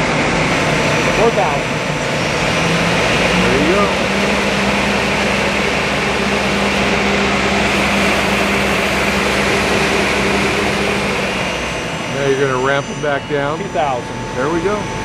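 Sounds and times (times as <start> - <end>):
lathe spindles humming and whining: 0.0 - 15.0.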